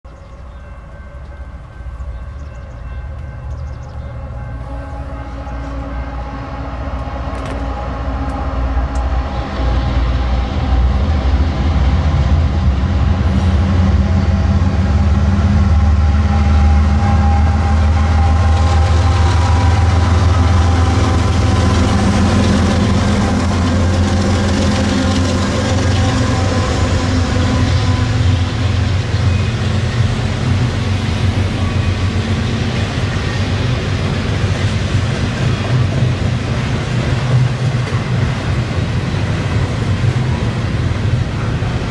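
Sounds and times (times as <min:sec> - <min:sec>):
diesel locomotive engines droning: 0:00.0 - 0:41.9
train wheels rumbling on rails: 0:00.1 - 0:41.9.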